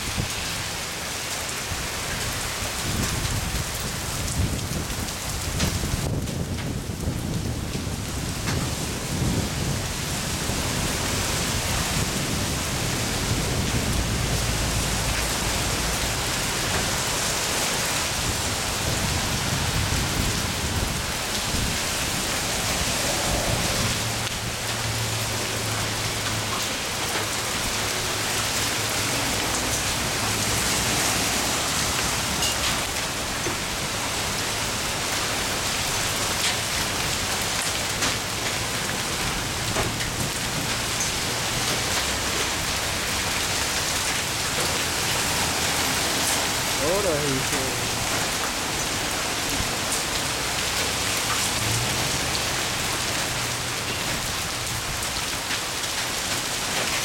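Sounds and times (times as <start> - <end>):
heavy rain on concrete: 0.0 - 57.0.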